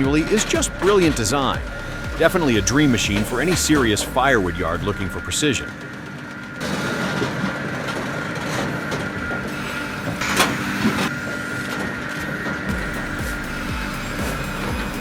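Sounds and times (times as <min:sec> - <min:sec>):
heavy machine whining and rumbling: 0:00.0 - 0:15.0.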